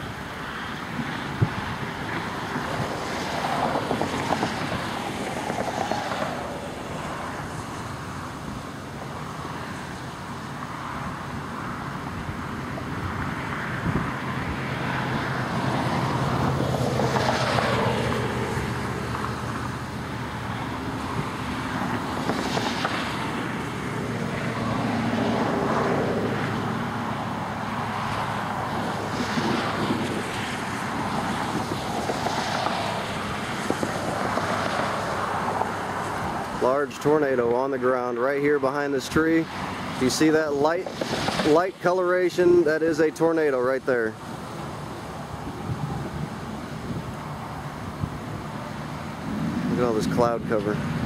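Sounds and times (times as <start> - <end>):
wind buffeting microphone: 0.7 - 9.9, 11.6 - 36.6, 44.2 - 51.0.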